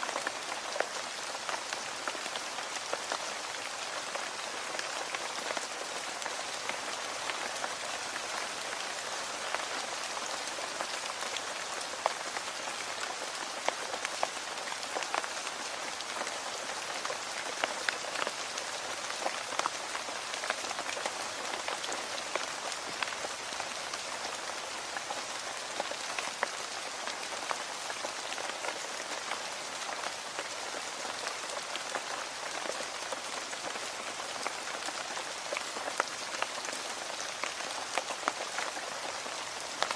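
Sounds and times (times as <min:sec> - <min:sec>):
steady rain hissing: 0:00.0 - 0:39.9
raindrops ticking: 0:00.1 - 0:39.9.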